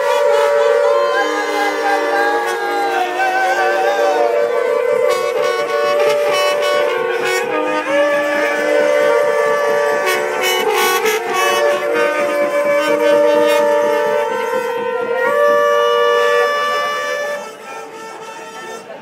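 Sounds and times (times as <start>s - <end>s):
wind instruments holding notes: 0.0s - 19.0s.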